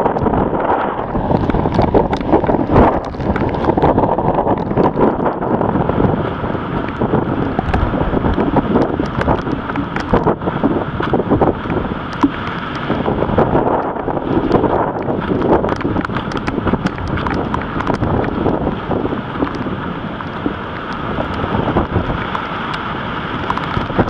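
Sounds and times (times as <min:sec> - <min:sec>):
wind buffeting microphone: 0:00.0 - 0:24.0
wind gust crackles and thumps: 0:00.0 - 0:24.0.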